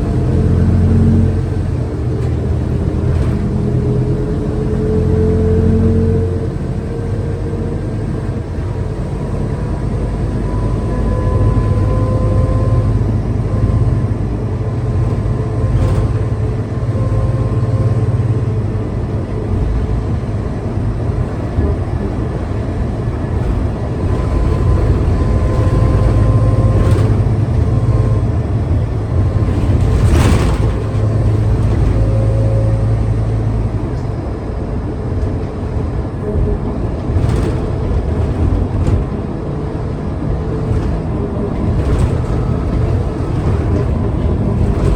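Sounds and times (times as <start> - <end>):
bus diesel engine drone: 0.0 - 44.9.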